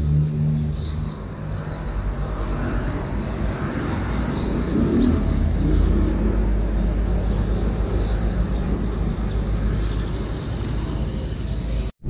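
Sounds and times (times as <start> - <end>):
low rumble of a motor vehicle: 0.0 - 11.9.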